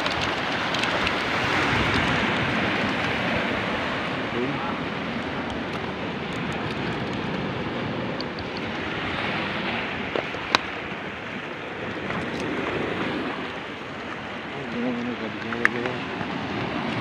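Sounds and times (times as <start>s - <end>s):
sea waves: 0.0s - 17.0s
wind on microphone: 0.0s - 17.0s.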